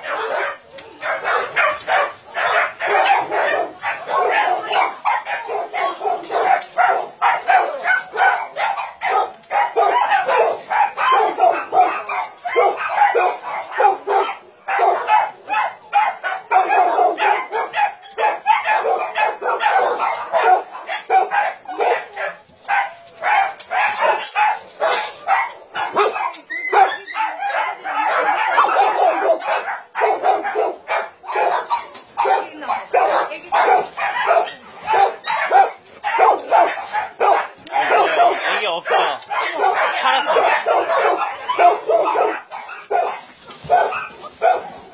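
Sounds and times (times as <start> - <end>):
dog yelping: 0.0 - 44.9
many dogs barking: 0.0 - 44.9.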